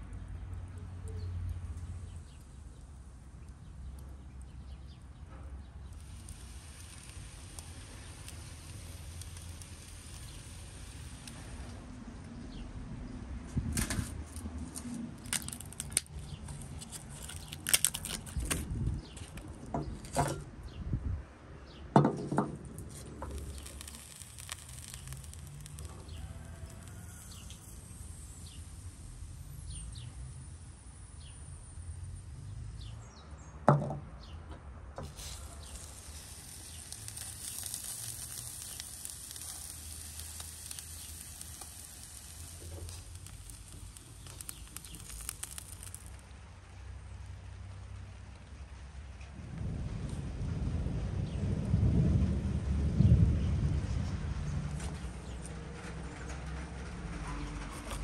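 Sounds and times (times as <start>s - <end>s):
fat sizzling over embers: 0.0s - 13.0s, 13.6s - 20.4s, 22.6s - 32.9s, 35.0s - 49.1s, 55.2s - 58.0s.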